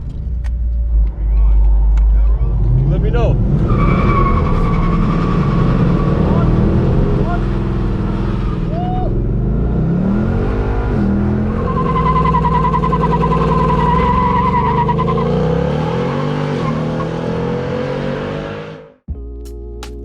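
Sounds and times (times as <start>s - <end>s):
car engine accelerating: 0.0s - 19.1s.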